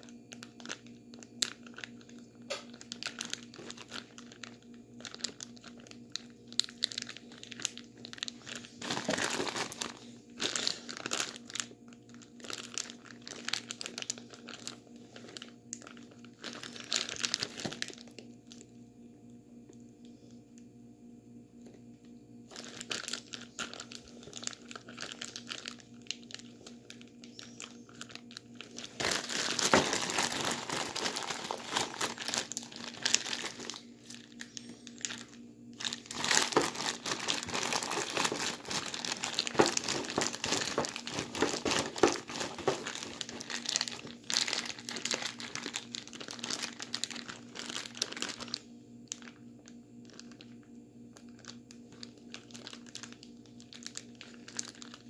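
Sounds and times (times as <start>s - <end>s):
plastic bag of ice crinkling: 0.0s - 18.8s, 21.6s - 55.0s.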